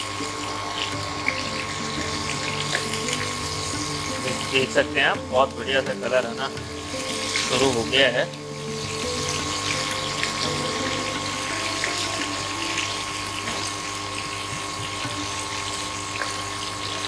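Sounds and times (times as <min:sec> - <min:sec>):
chicken sizzling in hot oil: 0:00.0 - 0:17.0
steady mechanical hum: 0:00.0 - 0:17.0.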